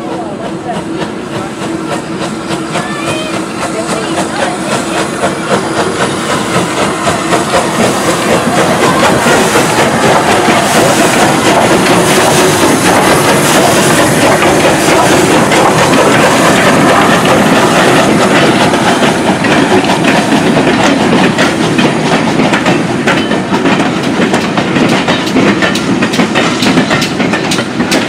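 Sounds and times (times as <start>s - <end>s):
steam exhaust hissing: 0.0s - 28.0s
steam locomotive passing: 0.0s - 28.0s.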